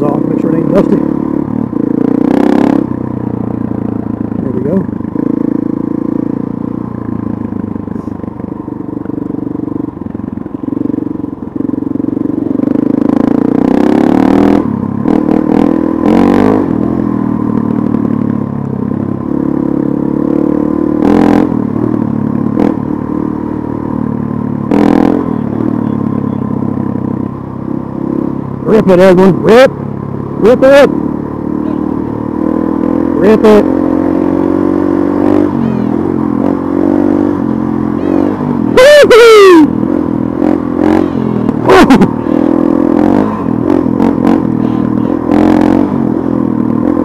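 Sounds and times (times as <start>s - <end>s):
dirt bike engine running: 0.0s - 47.0s.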